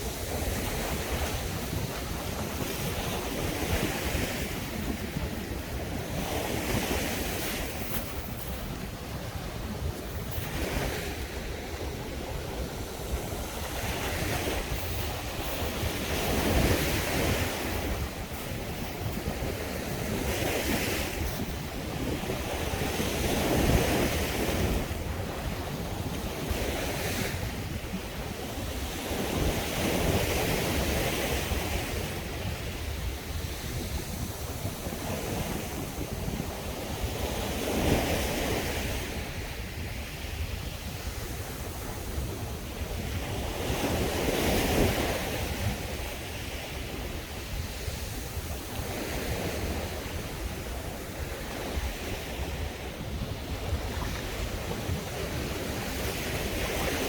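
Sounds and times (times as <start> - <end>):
sea waves breaking on beach: 0.0 - 57.0
wind buffeting microphone: 0.0 - 57.0.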